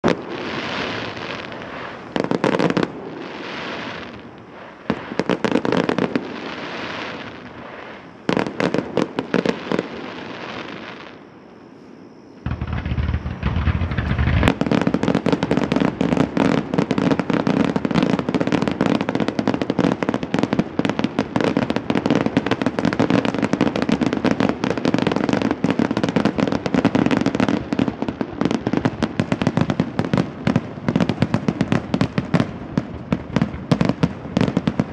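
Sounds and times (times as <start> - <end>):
fireworks bangs with deep booms: 0.0 - 11.2, 12.4 - 34.9
fireworks bursting and crackling: 0.0 - 11.5, 12.4 - 34.9.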